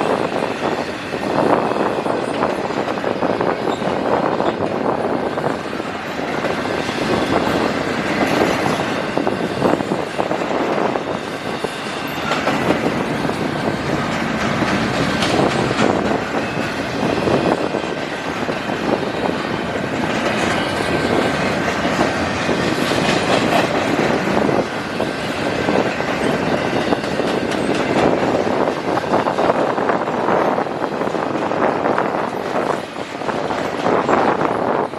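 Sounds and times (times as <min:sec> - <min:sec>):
freight train wheels clattering: 0:00.0 - 0:34.9.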